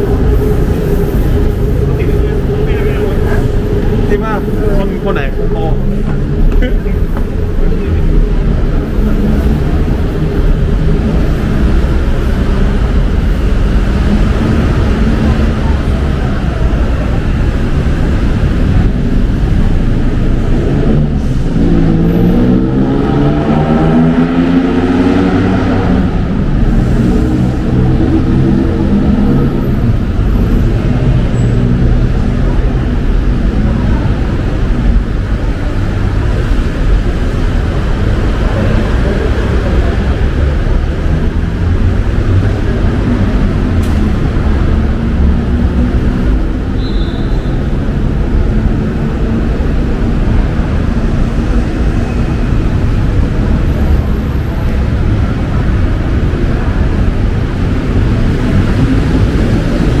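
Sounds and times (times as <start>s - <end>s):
road traffic rumble: 0.0s - 60.0s.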